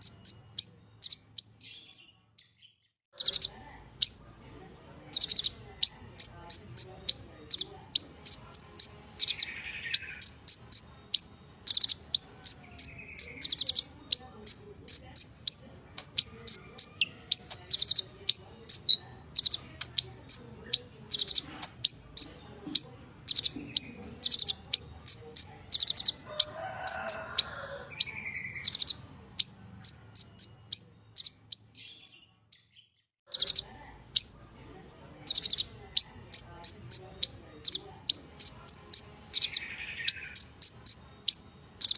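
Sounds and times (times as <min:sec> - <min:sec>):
bird singing high chirps and trills: 0:00.0 - 0:04.4, 0:05.0 - 0:34.5, 0:35.2 - 0:41.9.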